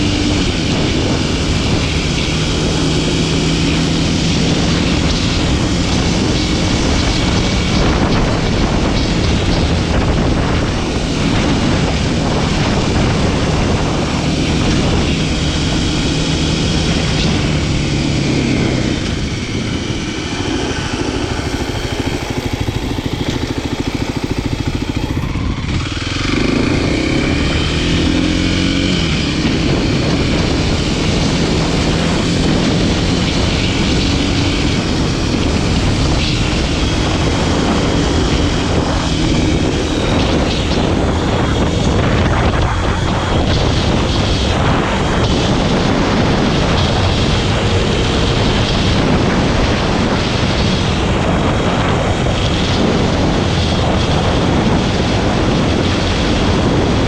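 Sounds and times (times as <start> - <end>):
motorcycle engine running: 0.0 - 57.0
wind rushing: 0.0 - 57.0.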